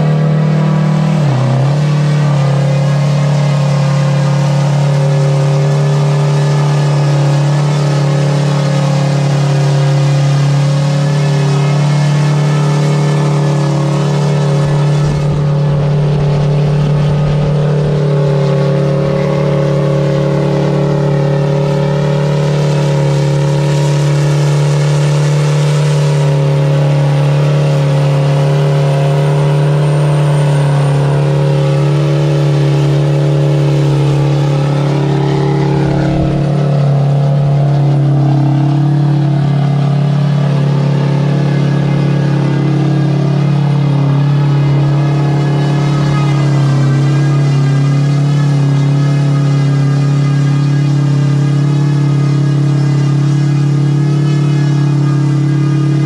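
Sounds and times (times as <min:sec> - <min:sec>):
diesel engine at full revs: 0:00.0 - 0:56.0.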